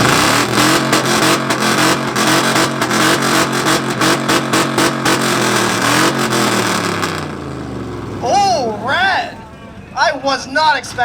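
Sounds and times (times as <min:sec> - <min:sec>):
car engine revving hard: 0:00.0 - 0:09.5
exhaust pops crackling: 0:00.0 - 0:09.6.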